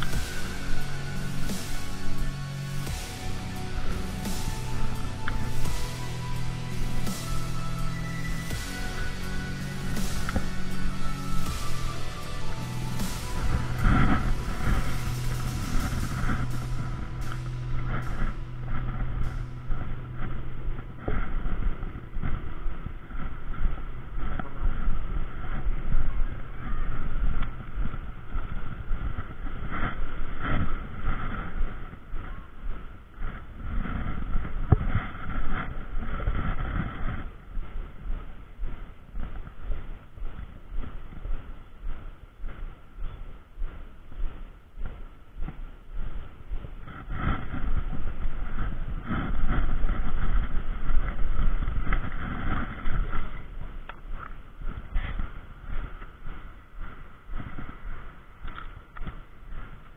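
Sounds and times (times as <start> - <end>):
faint steady hiss: 0.0 - 59.9
wind buffeting microphone: 0.0 - 59.9.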